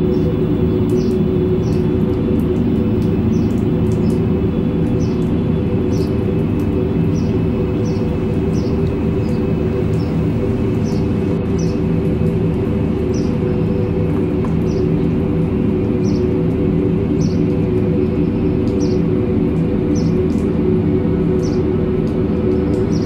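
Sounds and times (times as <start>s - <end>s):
loud low drone: 0.0s - 23.0s.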